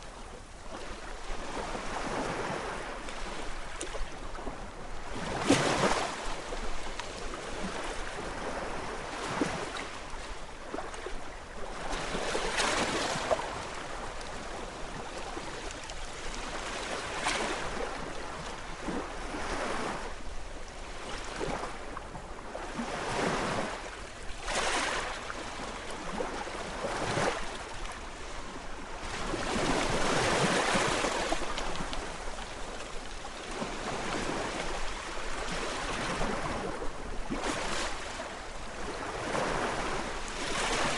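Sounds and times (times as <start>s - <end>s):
gentle sea waves washing in: 0.0s - 40.9s.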